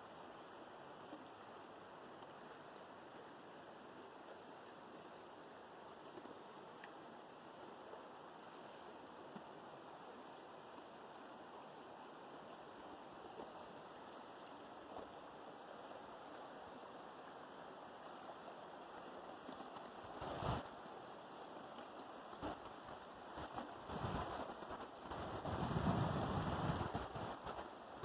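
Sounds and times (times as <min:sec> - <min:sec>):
river flowing: 0:00.0 - 0:28.0.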